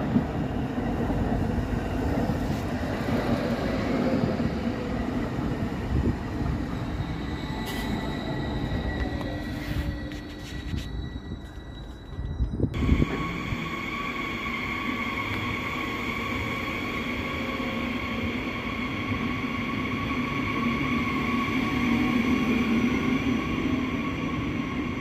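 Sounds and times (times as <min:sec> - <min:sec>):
train running with high whine: 0:00.0 - 0:25.0.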